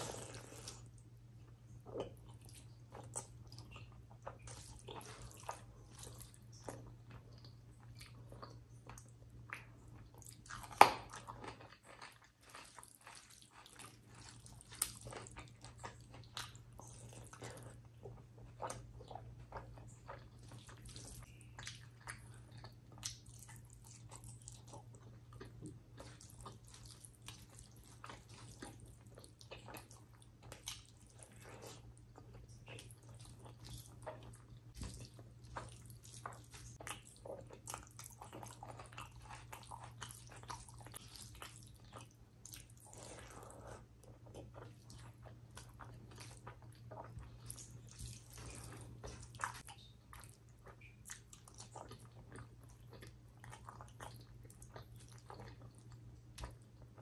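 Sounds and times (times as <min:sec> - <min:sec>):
wet chewing mouth sounds: 0:01.9 - 0:57.0.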